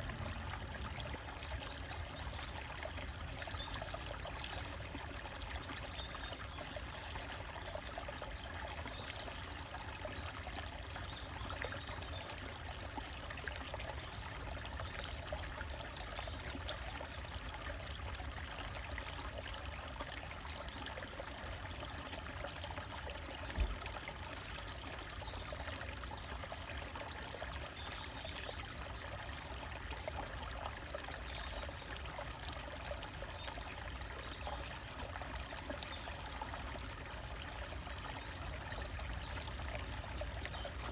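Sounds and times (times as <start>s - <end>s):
stream trickling over rocks: 0.0s - 40.9s.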